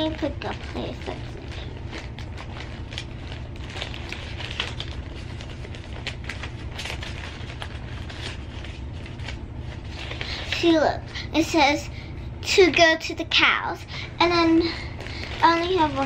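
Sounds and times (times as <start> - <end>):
plastic bag crinkling: 0.0 - 11.0, 13.8 - 16.0
steady low hum: 0.0 - 16.0.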